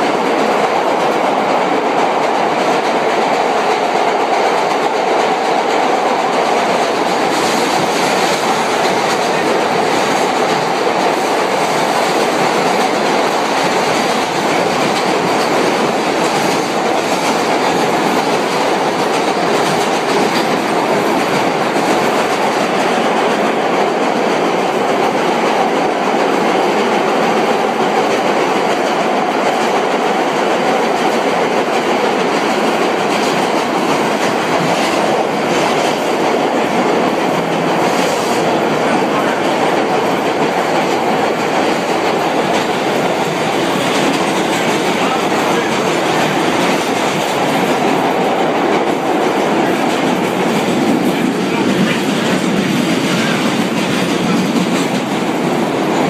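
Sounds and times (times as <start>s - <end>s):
subway car rumble and rattle: 0.0s - 56.0s.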